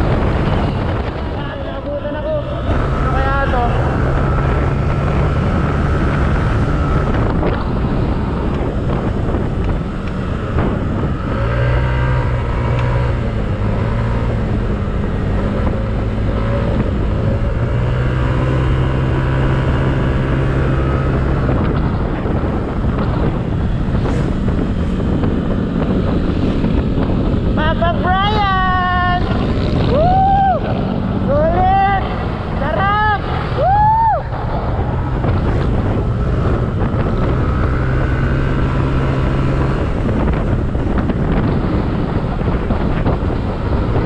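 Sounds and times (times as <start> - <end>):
wind on microphone: 0.0 - 44.0.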